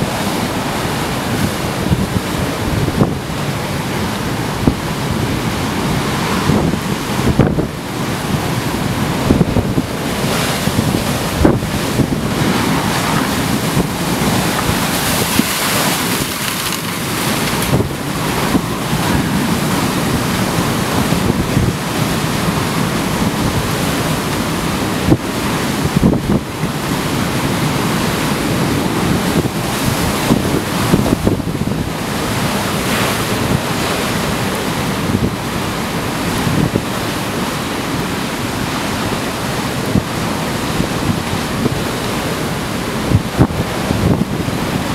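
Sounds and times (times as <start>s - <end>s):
storm surf breaking on pier wall: 0.0s - 44.9s
wind buffeting microphone: 0.0s - 44.9s.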